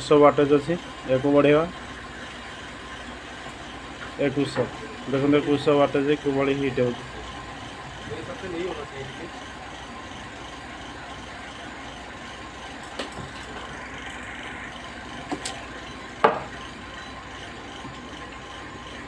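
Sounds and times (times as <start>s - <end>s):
induction cooktop humming: 0.0s - 19.0s.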